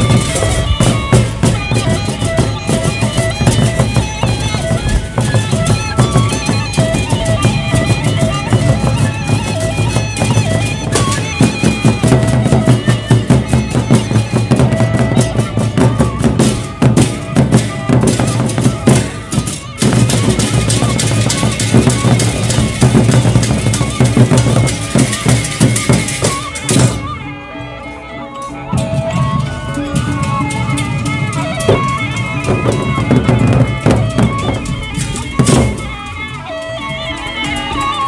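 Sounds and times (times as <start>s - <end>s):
barrel drums beaten fast: 0.0s - 27.1s, 29.2s - 36.0s.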